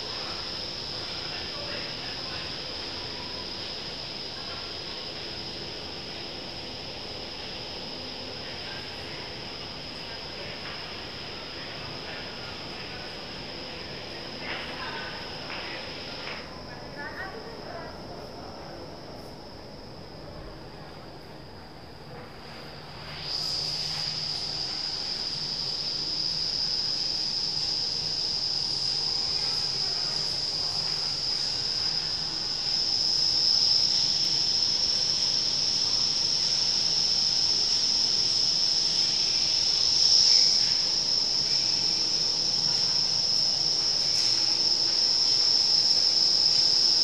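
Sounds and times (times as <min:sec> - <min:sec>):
high-pitched whine: 0:00.0 - 0:47.0
rush of air in wind tunnel: 0:00.0 - 0:47.0.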